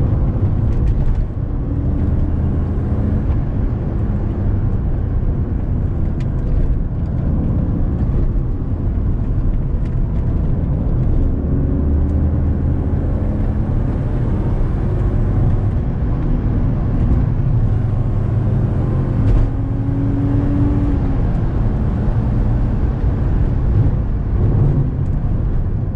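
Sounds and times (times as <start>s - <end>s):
car engine running: 0.0s - 25.9s
tyre and road noise: 0.0s - 25.9s.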